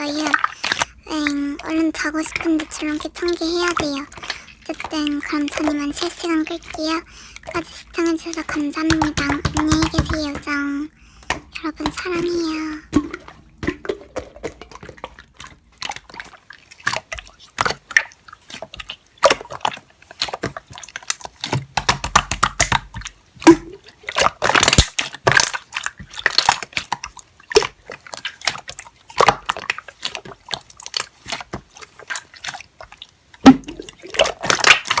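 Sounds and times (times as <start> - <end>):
slime squeezed with sticky pops: 0.0 - 35.0.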